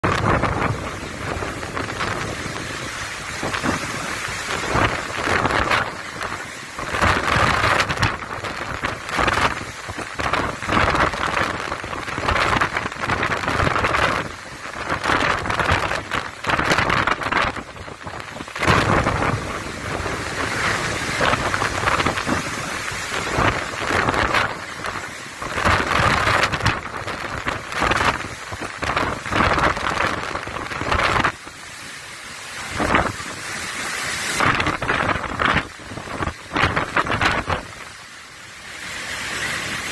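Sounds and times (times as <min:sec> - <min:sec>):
wind buffeting microphone: 0:00.0 - 0:31.6, 0:32.6 - 0:38.0
heavy rain: 0:00.0 - 0:39.9
strong gusting wind: 0:00.0 - 0:39.9.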